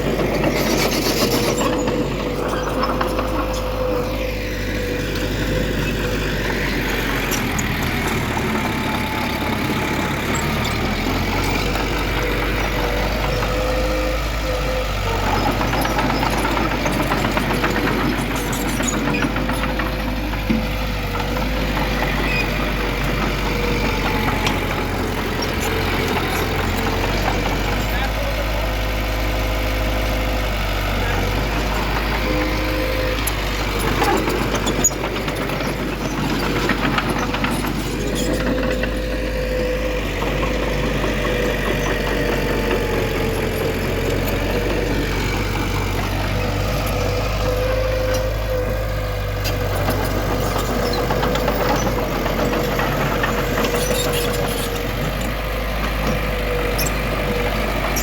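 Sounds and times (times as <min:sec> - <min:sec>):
diesel engine drone with whine: 0:00.0 - 0:58.0.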